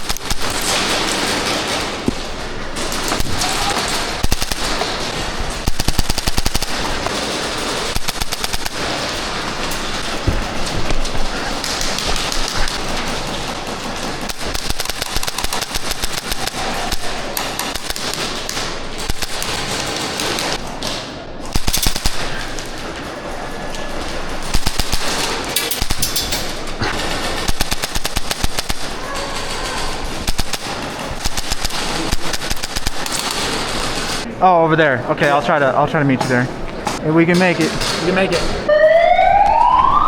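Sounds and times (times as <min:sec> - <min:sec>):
airsoft guns firing: 0:00.0 - 0:34.3.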